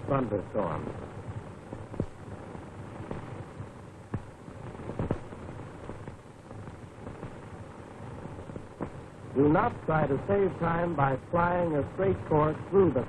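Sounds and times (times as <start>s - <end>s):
faint hum: 0.0s - 13.0s
film soundtrack hiss: 0.0s - 13.0s
sharp crackles: 0.0s - 13.0s.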